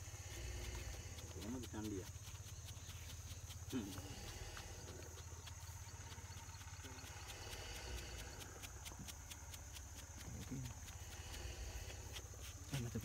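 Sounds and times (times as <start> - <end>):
insects chirping: 0.0 - 13.0
low hum: 0.0 - 13.0.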